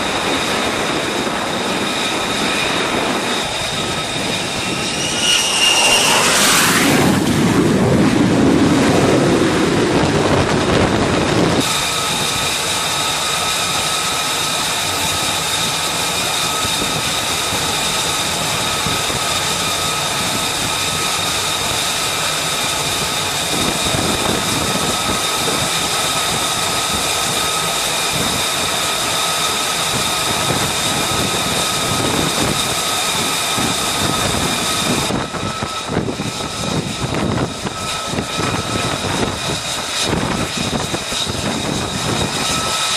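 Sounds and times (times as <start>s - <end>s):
high turbofan whine: 0.0s - 42.9s
jet engine roar: 0.0s - 42.9s.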